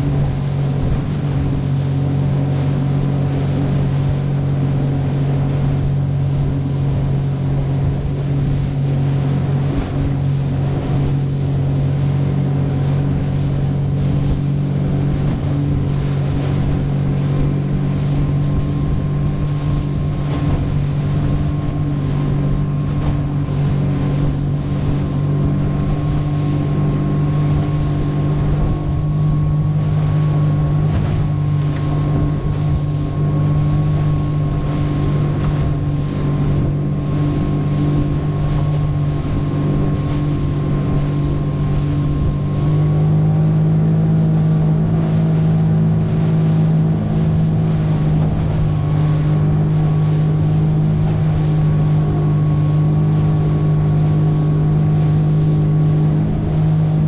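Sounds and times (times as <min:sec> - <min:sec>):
outboard motor running: 0:00.0 - 0:57.0
rushing water: 0:00.0 - 0:57.0
wind noise: 0:00.0 - 0:57.0.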